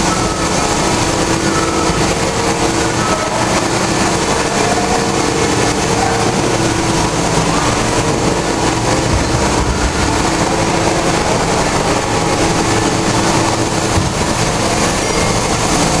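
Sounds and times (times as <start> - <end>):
machinery mechanical din: 0.0 - 16.0.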